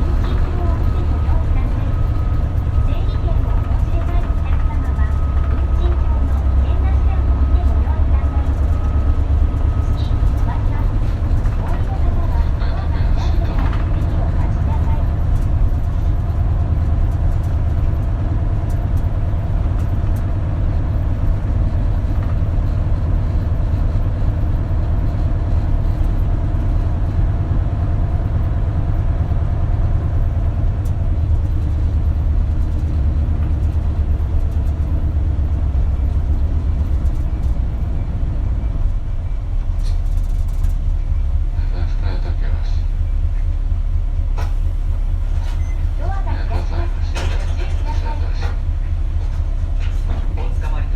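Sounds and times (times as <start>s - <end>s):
bus engine low rumble: 0.0s - 50.9s.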